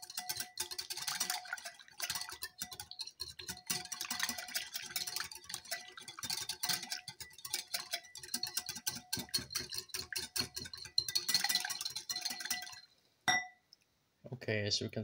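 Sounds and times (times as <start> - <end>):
whisk clinking against glass bowl: 0.0 - 13.5.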